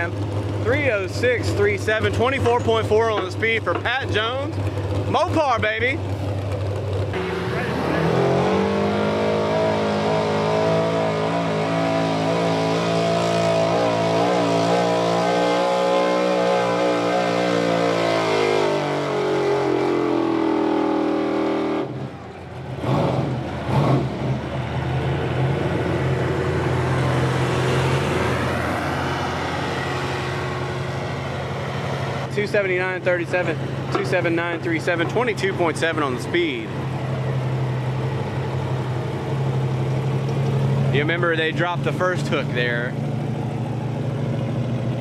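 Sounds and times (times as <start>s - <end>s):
pickup truck engine at full throttle: 0.0s - 45.0s.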